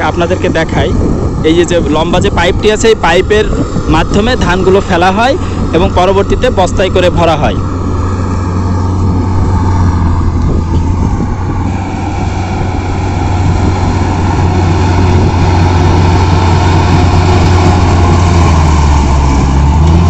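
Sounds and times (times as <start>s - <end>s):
combine harvester engine hum: 0.0s - 20.0s
machinery noise: 0.0s - 20.0s.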